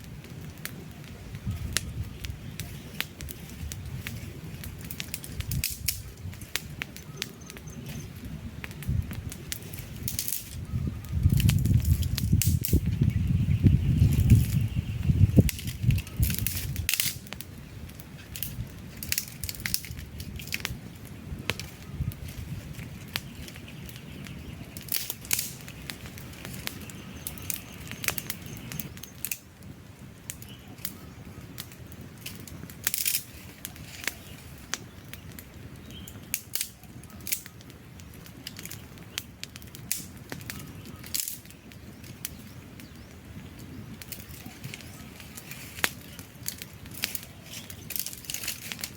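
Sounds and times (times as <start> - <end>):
logs crackling and popping: 0.0 - 48.9
rush of flame: 0.0 - 48.9.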